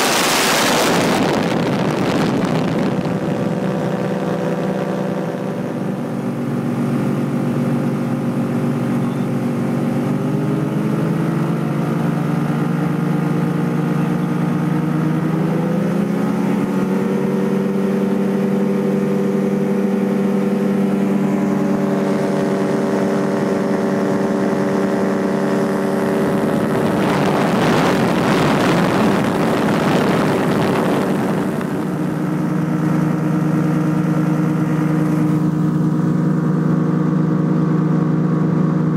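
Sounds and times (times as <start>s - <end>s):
propeller engine droning: 0.0s - 38.9s.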